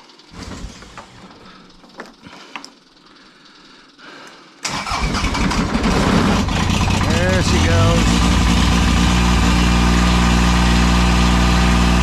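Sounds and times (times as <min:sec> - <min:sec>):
tractor engine starting and running: 0:00.0 - 0:12.0.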